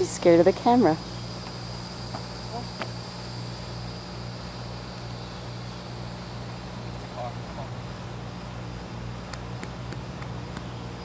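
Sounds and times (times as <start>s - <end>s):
insects buzzing: 0.0s - 11.0s
low even hum: 0.0s - 11.0s.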